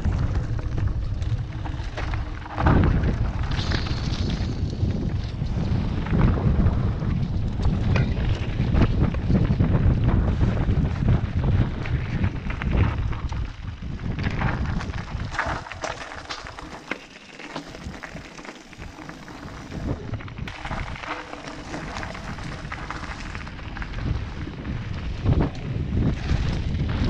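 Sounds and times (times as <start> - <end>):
bike rattling: 0.0 - 27.0
tyres on gravel: 0.0 - 27.0
wind rumbling on microphone: 0.0 - 27.0.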